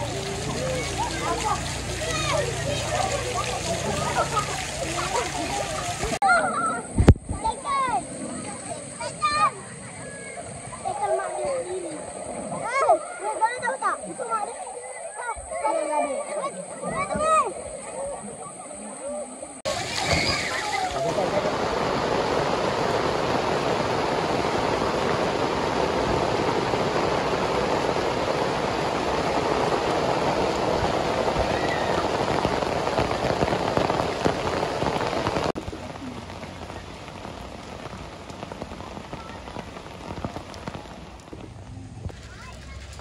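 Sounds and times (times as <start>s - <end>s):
heavy rain falling: 0.0s - 14.6s, 19.6s - 43.0s.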